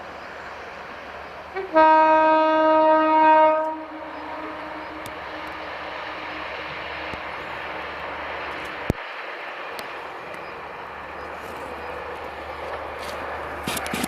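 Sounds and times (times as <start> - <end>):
diesel train passing: 0.0 - 14.0.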